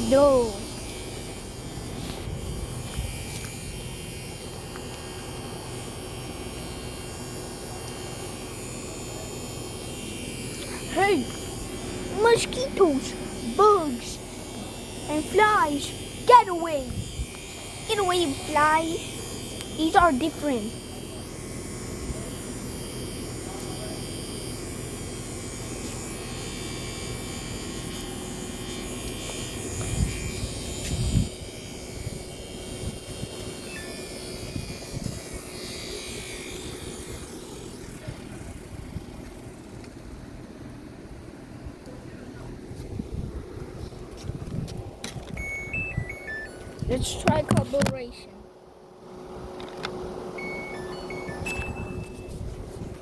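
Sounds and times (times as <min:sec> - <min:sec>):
low hum with hiss: 0:00.0 - 0:53.0.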